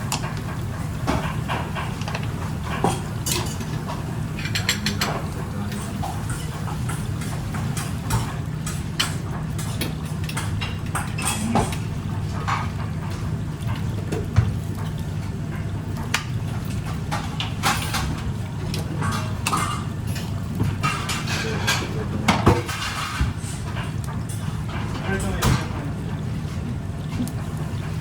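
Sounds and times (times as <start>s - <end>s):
dishes clinking and clattering: 0.0s - 28.0s.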